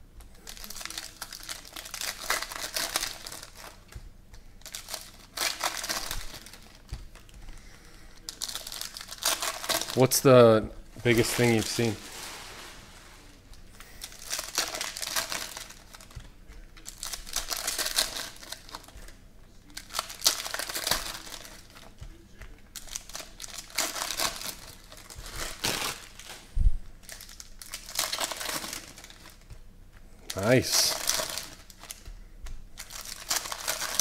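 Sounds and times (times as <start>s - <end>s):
foil wrappers crinkling and tearing: 0.2s - 34.0s.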